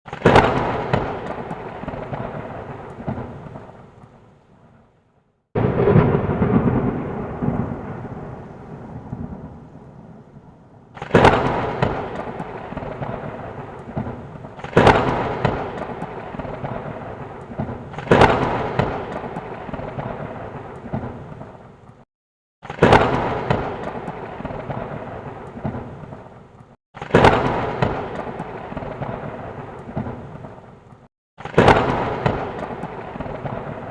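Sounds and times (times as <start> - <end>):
thunderclaps with rumble: 0.1 - 4.2, 5.6 - 22.0, 22.6 - 33.9.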